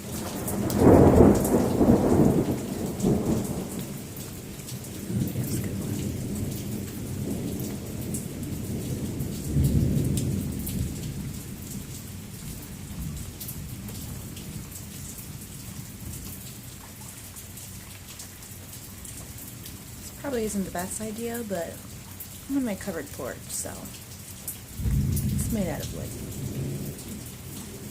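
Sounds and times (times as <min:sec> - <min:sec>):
thunder rumbling: 0:00.0 - 0:16.7, 0:19.3 - 0:27.9
steady rain: 0:00.0 - 0:27.9.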